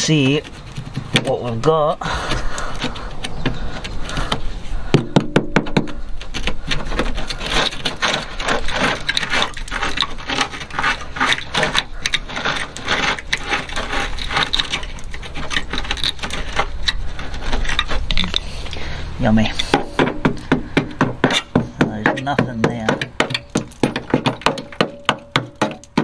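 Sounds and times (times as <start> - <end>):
rusted metal scraping and crunching: 0.0 - 26.0.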